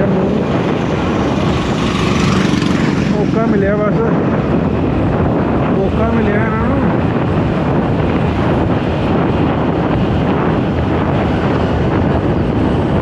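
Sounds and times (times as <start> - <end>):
motorcycle road noise: 0.0 - 13.0
wind buffeting microphone: 0.0 - 13.0.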